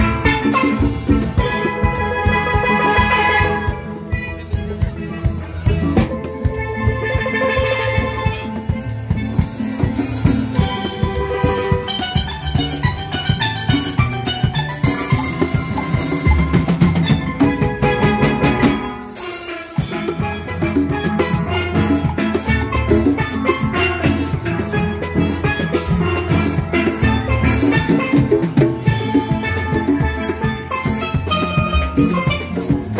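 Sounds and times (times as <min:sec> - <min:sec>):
drum kit and congas: 0:00.0 - 0:32.9
steel pans playing a tune: 0:00.0 - 0:32.9.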